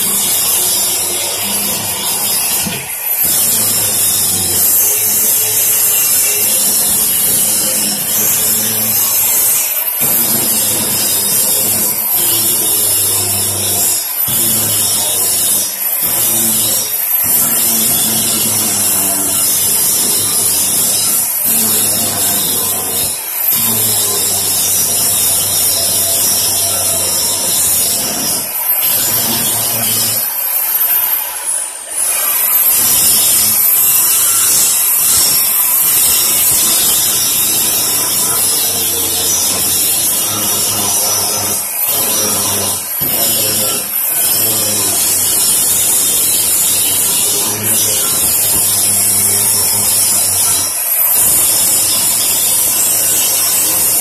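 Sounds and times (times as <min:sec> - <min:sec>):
angle grinder grinding metal: 0:00.0 - 0:54.0.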